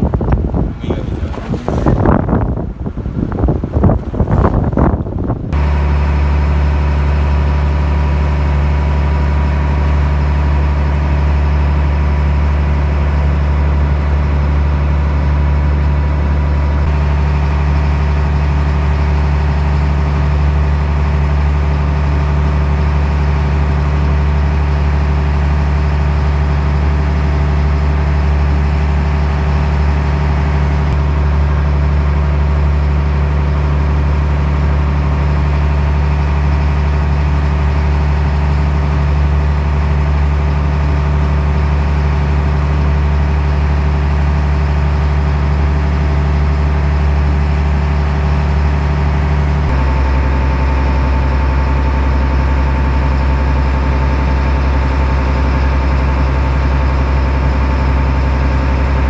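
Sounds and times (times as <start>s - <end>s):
boat engine droning: 0.0s - 59.0s
wake churning along hull: 0.0s - 59.0s.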